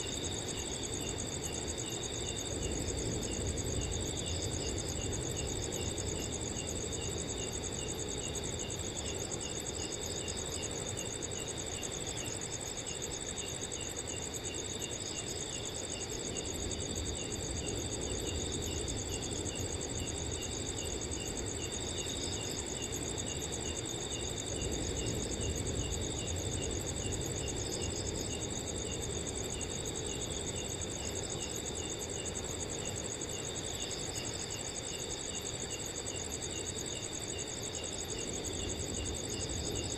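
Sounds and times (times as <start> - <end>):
cricket chirping: 0.0 - 39.9
crickets trilling: 0.0 - 39.9.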